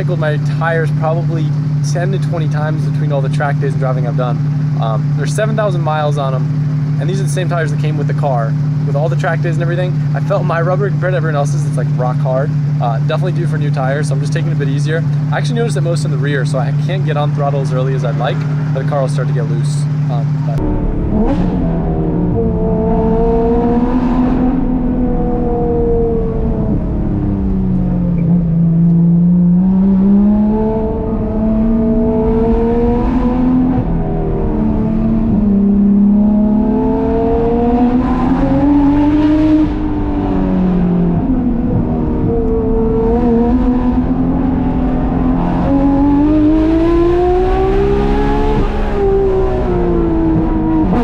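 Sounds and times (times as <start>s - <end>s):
sports car engine accelerating: 0.0s - 51.0s.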